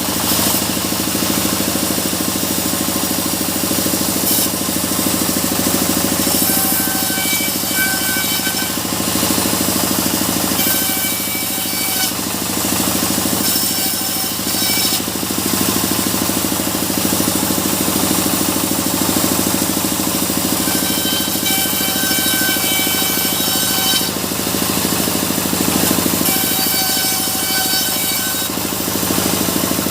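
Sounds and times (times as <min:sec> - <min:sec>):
sawmill engine pulsing: 0:00.0 - 0:07.7, 0:08.3 - 0:11.3, 0:12.1 - 0:29.9.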